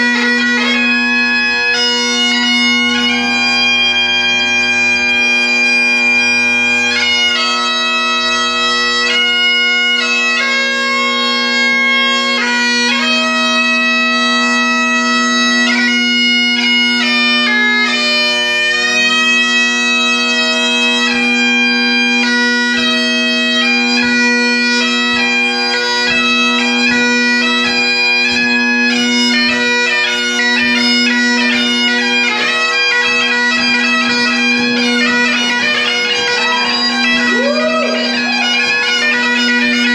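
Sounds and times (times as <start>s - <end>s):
bagpipe playing: 0.0s - 39.9s.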